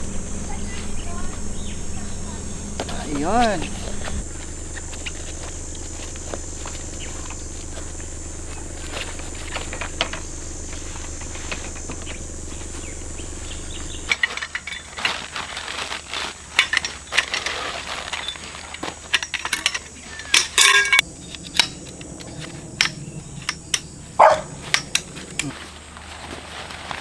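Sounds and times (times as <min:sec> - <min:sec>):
small hard objects clinking: 0:00.0 - 0:27.0
steady low hum: 0:00.0 - 0:27.0.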